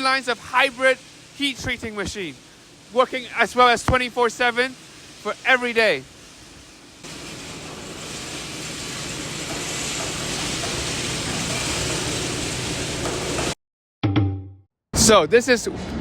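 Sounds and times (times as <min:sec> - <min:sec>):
machinery rushing noise: 0:00.0 - 0:13.6.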